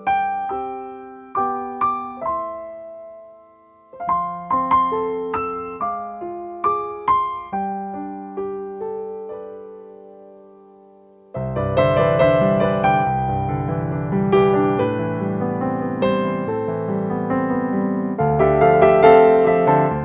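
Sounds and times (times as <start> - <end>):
slow gentle solo piano: 0.0 - 20.0.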